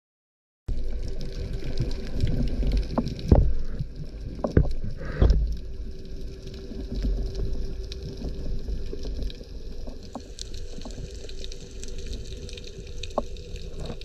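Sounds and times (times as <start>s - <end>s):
underwater knocks and gurgles: 0.7s - 14.0s
underwater rumble of water: 0.7s - 14.0s.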